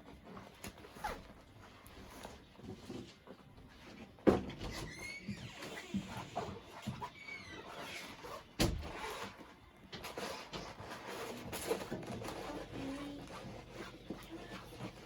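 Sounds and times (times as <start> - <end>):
canvas rustling and scraping: 0.0 - 15.0.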